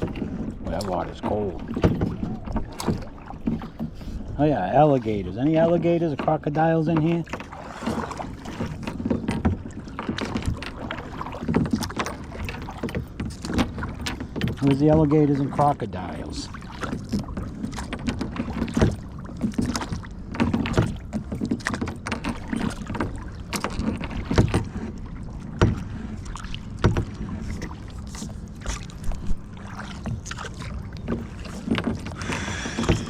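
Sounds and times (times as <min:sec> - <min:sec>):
paddle knocks: 0:00.0 - 0:33.0
paddle splashing in water: 0:00.0 - 0:33.0
water rush: 0:00.0 - 0:33.0.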